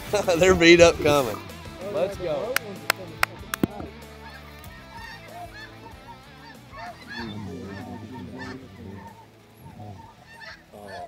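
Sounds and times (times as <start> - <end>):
geese honking: 0.2 - 11.0.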